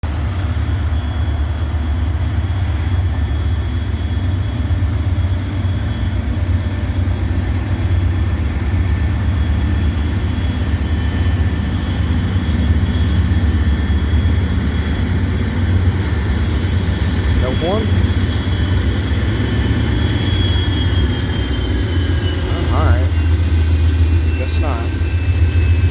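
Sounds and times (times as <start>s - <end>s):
freight train wheels rumbling on rails: 0.0s - 25.9s.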